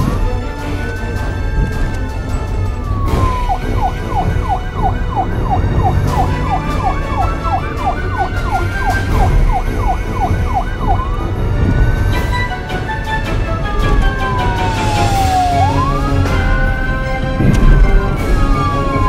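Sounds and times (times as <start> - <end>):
police siren wailing and yelping: 0.0 - 19.0.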